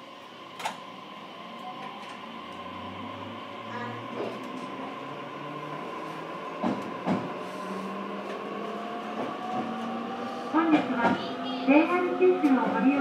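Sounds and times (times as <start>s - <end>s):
electric train motor hum: 0.0s - 13.0s.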